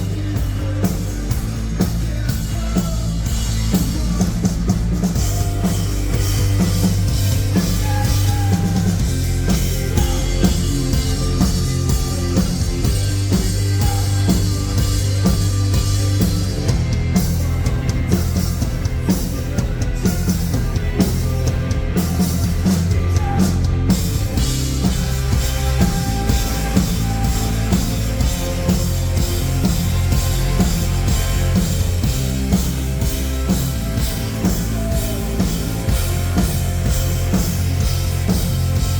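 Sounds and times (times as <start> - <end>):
bass guitar: 0.0 - 38.9
drum kit: 0.0 - 38.9
rock band playing live: 0.0 - 38.9.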